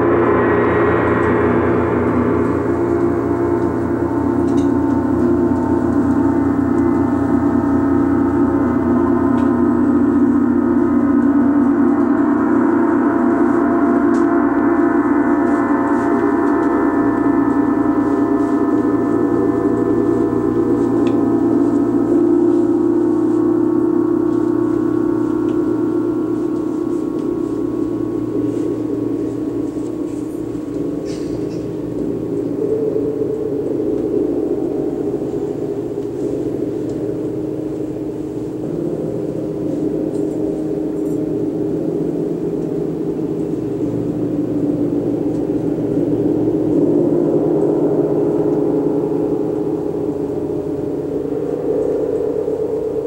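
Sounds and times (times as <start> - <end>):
gongs ringing: 0.0 - 53.0.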